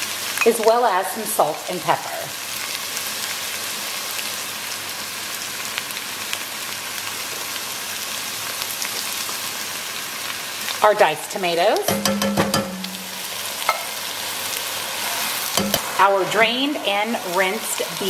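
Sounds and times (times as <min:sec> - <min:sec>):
meat and onion sizzling: 0:00.0 - 0:18.0.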